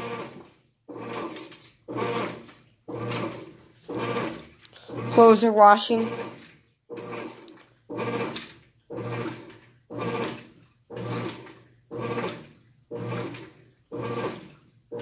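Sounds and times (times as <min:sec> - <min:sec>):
washing machine agitating: 0:00.0 - 0:15.0.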